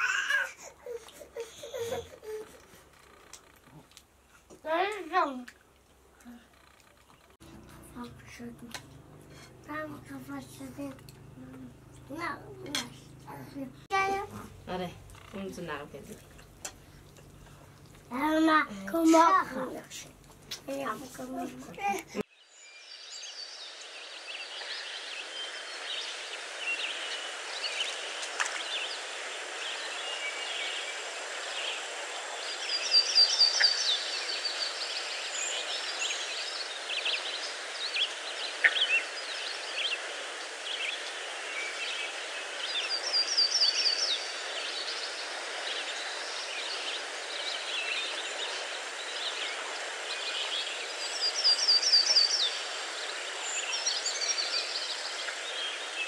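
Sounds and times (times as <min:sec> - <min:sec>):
steady background hiss: 0:07.4 - 0:56.0.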